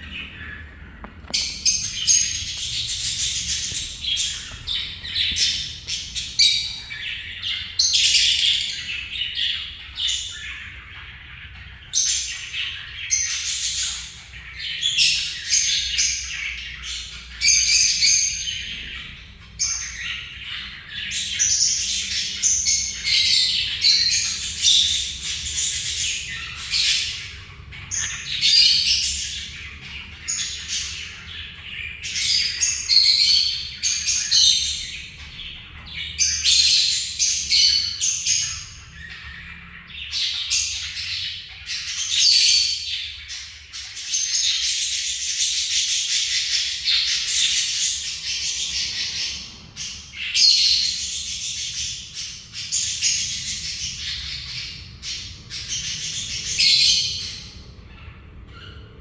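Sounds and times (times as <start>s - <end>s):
parrots squawking and chattering: 0.0s - 59.0s.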